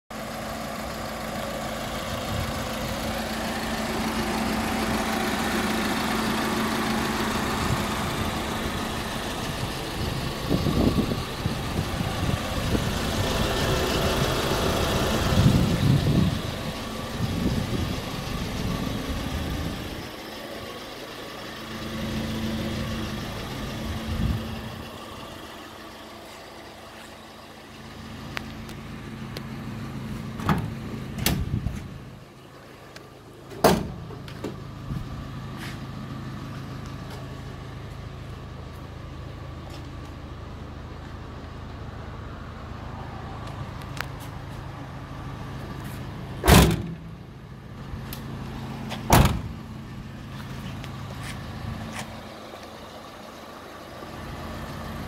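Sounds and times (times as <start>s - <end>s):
diesel engine idling: 0.1s - 55.0s.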